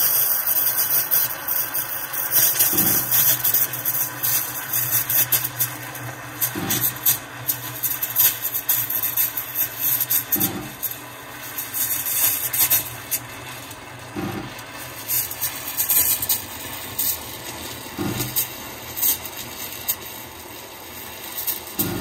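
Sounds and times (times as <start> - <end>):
steam wand hissing in milk: 0.0 - 22.0
milk crackling and sputtering: 0.1 - 22.0.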